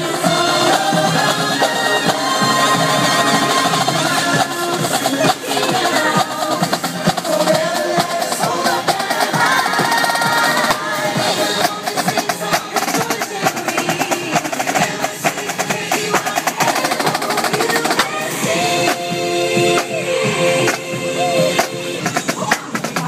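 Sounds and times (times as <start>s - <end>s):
music: 0.0s - 23.0s
snare drum rolls: 0.0s - 23.0s.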